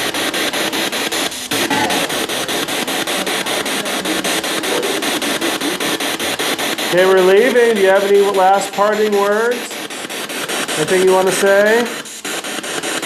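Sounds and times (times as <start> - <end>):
radio static hiss: 0.0 - 13.0
scraps of radio sound: 0.0 - 13.0.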